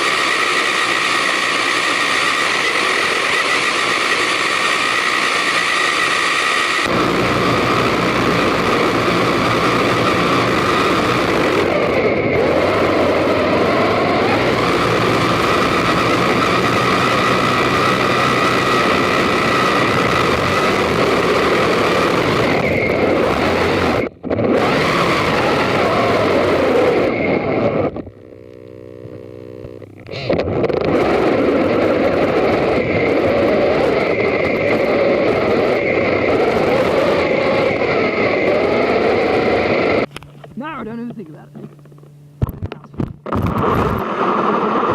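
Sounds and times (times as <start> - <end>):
rc car motor whine: 0.0 - 40.4.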